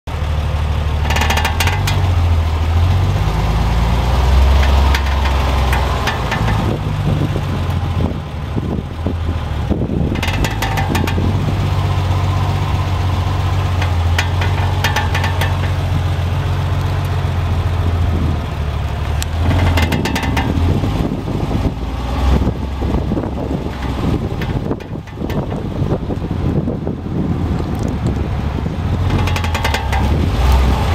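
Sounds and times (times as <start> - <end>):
car engine running: 0.1 - 30.9
suspension clicking and knocking: 0.8 - 30.9.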